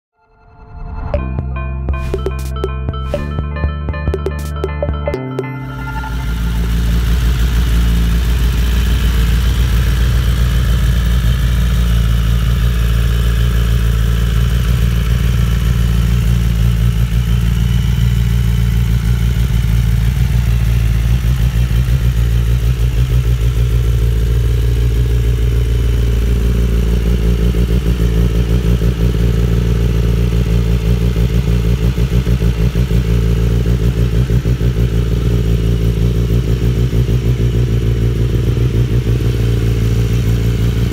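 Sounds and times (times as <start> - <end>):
motorcycle engine idling: 6.4 - 40.9.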